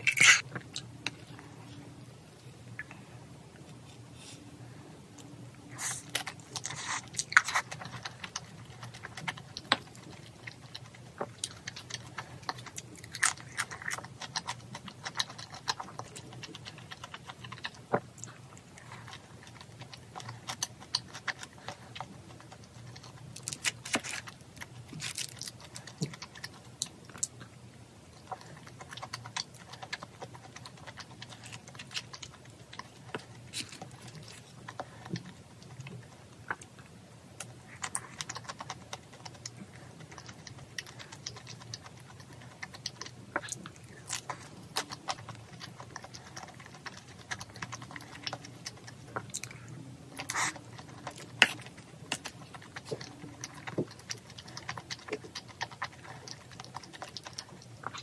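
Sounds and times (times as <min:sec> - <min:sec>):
chewing and smacking: 0:00.0 - 0:03.0, 0:05.2 - 0:58.0.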